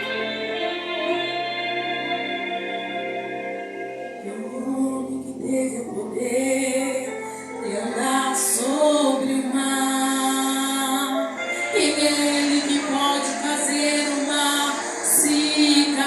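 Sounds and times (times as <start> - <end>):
sustained instrumental accompaniment: 0.0 - 16.0
woman singing: 0.0 - 16.0.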